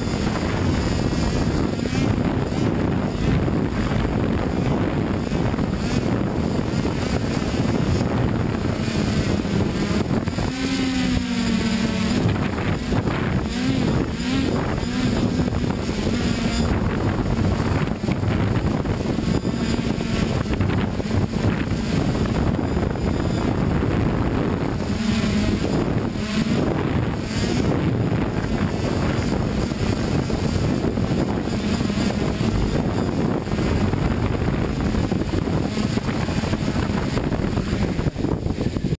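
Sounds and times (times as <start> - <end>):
drone motors humming: 0.0 - 39.0
rotor wash on microphone: 0.0 - 39.0.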